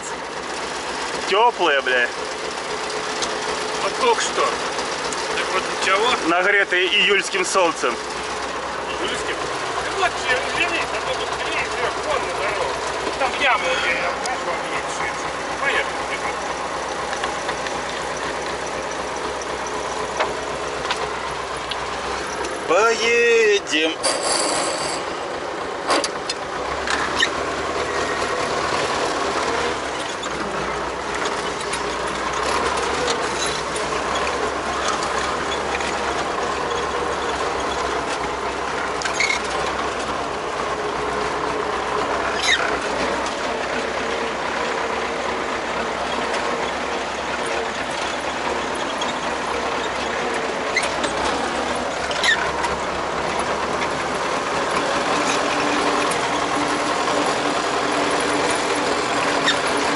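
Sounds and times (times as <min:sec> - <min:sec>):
vehicle engine running: 0:00.0 - 0:59.9
vehicle rattling clicks and squeaks: 0:00.0 - 0:59.9.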